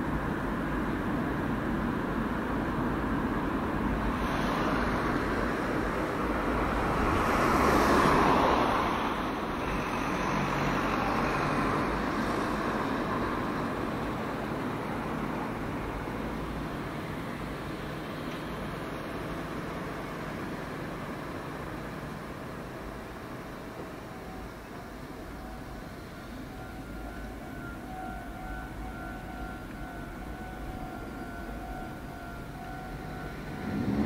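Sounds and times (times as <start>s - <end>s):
busy road traffic: 0.0s - 34.0s.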